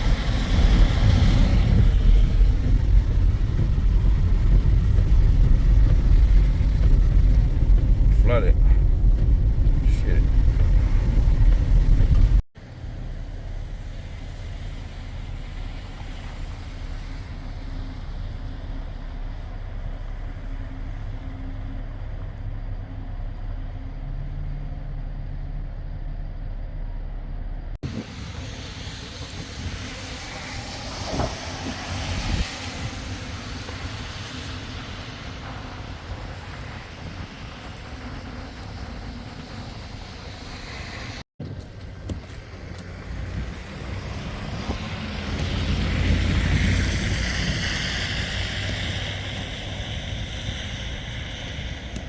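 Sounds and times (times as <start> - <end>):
vehicle road and engine rumble: 0.0 - 52.0.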